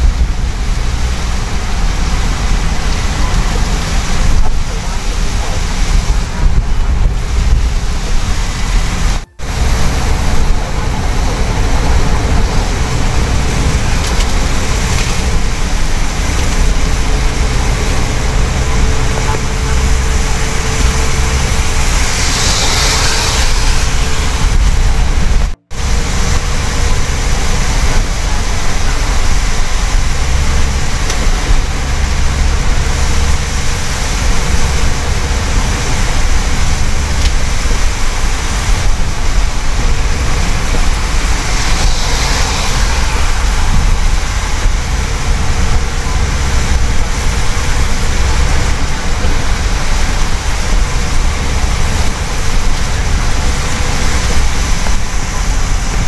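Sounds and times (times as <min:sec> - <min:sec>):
low engine rumble: 0:00.0 - 0:56.0
rain and spray on car: 0:00.0 - 0:56.0
tyres hissing through water: 0:00.0 - 0:56.0.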